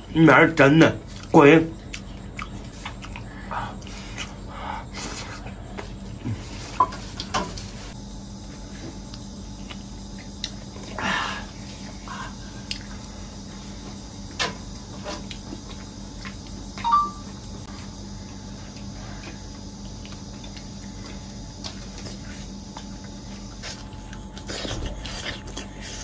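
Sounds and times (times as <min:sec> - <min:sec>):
faint steady hum: 0:00.0 - 0:26.0
chewing: 0:01.0 - 0:08.0, 0:08.8 - 0:16.8, 0:17.7 - 0:26.0.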